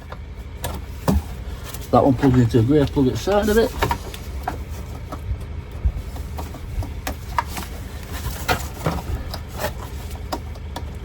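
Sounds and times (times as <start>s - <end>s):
low steady rumble: 0.0s - 11.0s
plastic panel being handled: 0.0s - 11.0s.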